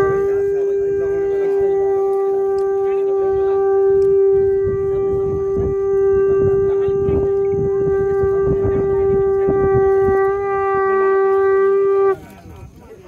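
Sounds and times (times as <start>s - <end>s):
conch shell blown: 0.0s - 12.4s
faint voices: 0.0s - 13.0s.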